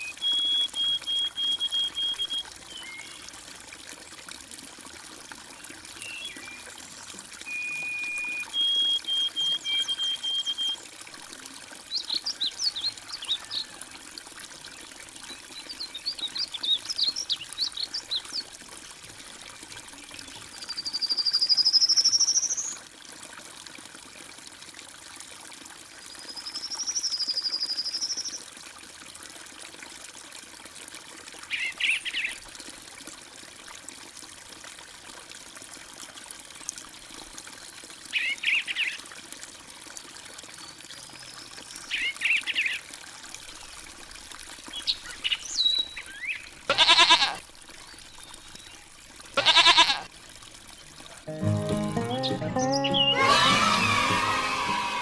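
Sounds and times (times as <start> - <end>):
water trickling: 0.0 - 53.1.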